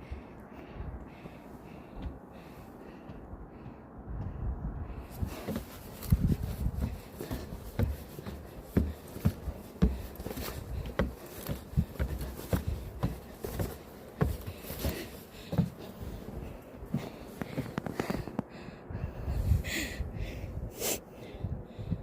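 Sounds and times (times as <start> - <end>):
footsteps climbing steps: 0.0 - 18.6.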